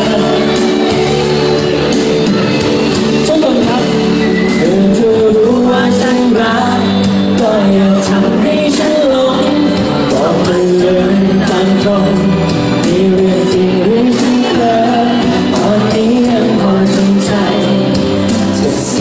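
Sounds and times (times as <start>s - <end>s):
man singing into microphone: 0.0s - 19.0s
pop music accompaniment: 0.0s - 19.0s.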